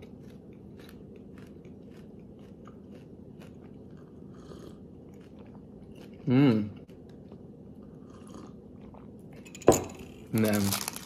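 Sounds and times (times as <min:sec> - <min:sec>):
crunchy chewing: 0:00.0 - 0:09.4.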